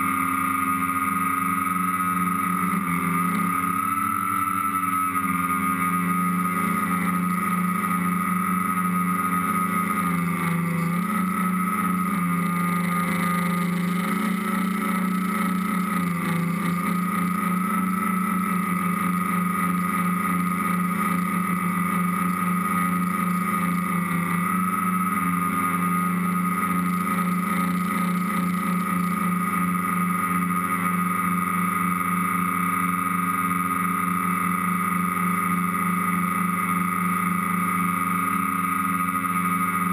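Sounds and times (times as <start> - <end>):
drone motors buzzing whine: 0.0 - 39.9.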